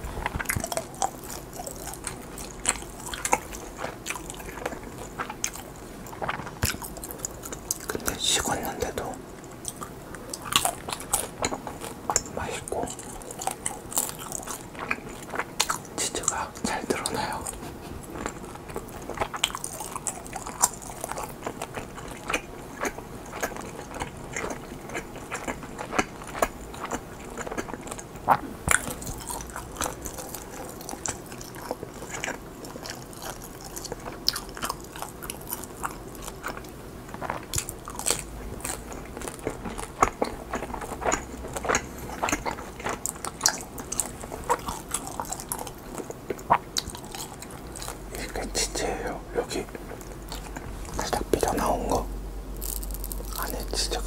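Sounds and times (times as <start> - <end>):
sticky chewing sounds: 0.0 - 54.0.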